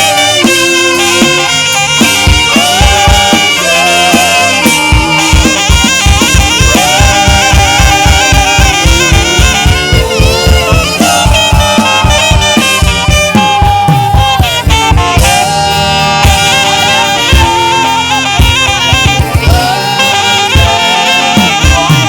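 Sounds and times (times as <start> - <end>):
live band: 0.0 - 22.0
saxophone melody: 0.0 - 22.0
steady drum beat: 0.0 - 22.0.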